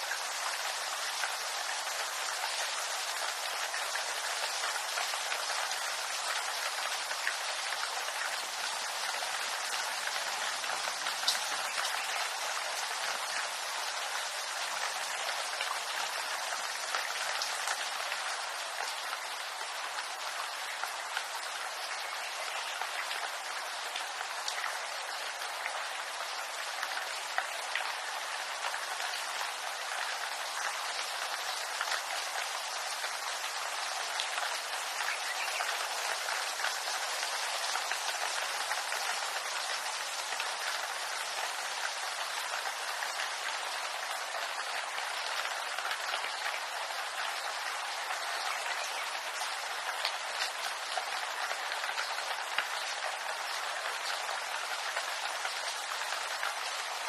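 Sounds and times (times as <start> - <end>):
rain on leaves: 0.0 - 57.0.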